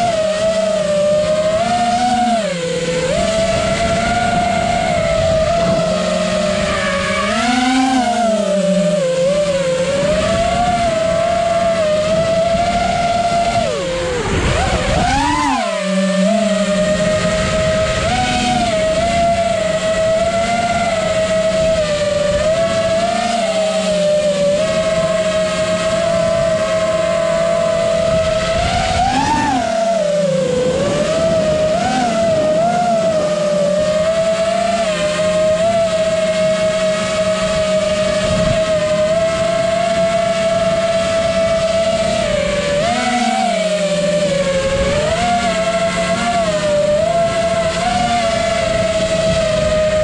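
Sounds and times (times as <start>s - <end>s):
drone motors whining: 0.0s - 50.0s.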